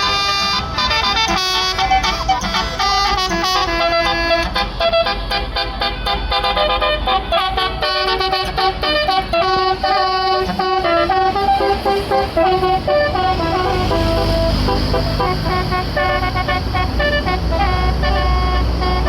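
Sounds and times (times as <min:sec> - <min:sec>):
bus engine running: 0:00.0 - 0:19.0
musical air horn playing tune: 0:00.0 - 0:19.0.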